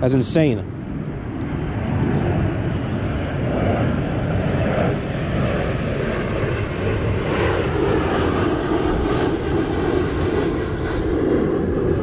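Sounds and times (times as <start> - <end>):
jet airliner flying over: 0.0 - 12.0.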